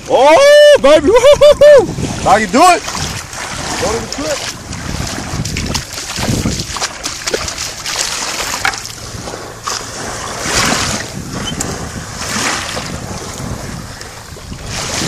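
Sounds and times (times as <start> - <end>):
wind noise on microphone: 0.0 - 15.0
water sloshing and splashing: 1.9 - 15.0.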